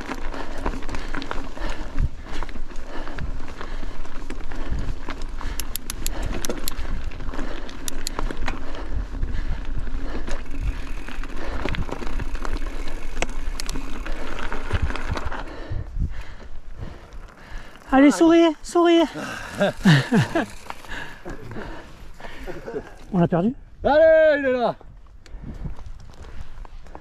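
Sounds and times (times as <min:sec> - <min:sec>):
bike clicks and rattles: 0:00.0 - 0:23.4, 0:24.8 - 0:27.0
bike tyres crunching on trail: 0:00.0 - 0:27.0.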